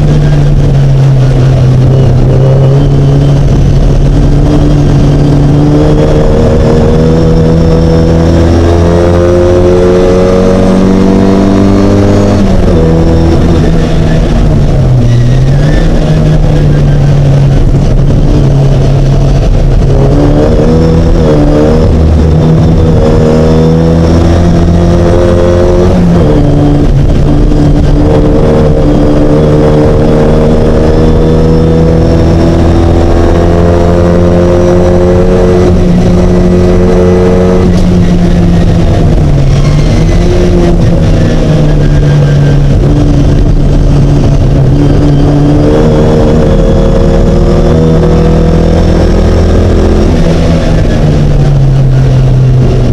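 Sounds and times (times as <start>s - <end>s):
racing car engine revving: 0.0s - 52.9s.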